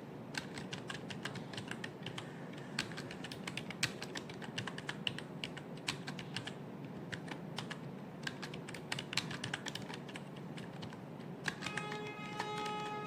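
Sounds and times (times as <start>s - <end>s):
keyboard typing clicks: 0.4s - 12.9s.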